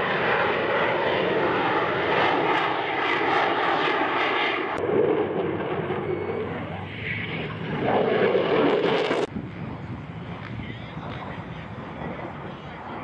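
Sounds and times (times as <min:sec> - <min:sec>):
jet engines roaring overhead: 0:00.0 - 0:13.0.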